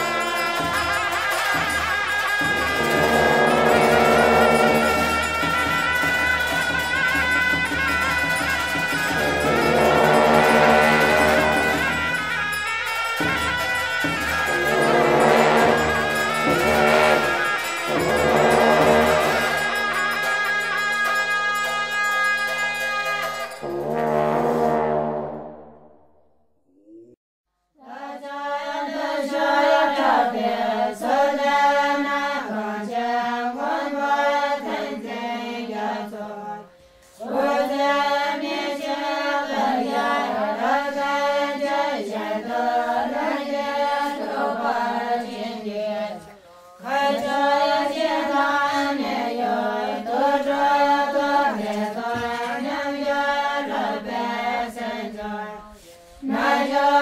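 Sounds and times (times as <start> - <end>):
chanting voices on held notes: 0.0 - 25.3, 27.8 - 57.0.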